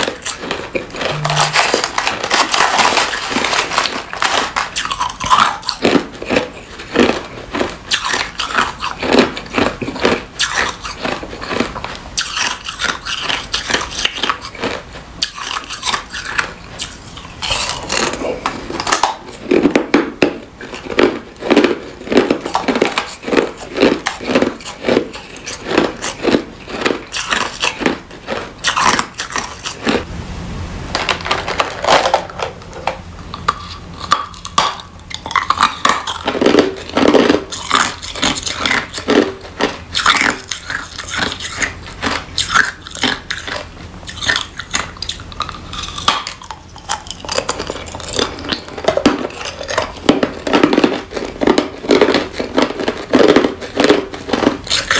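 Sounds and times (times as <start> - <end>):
ice crunched between teeth: 0.0 - 30.0, 33.4 - 54.9.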